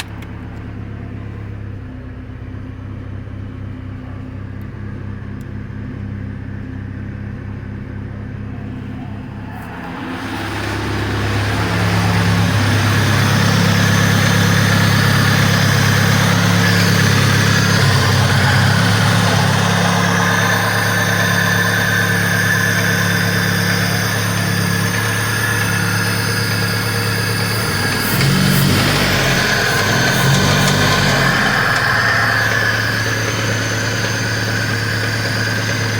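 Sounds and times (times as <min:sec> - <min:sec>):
car engine idling and revving: 0:00.0 - 0:35.9
engine knock: 0:00.0 - 0:35.9.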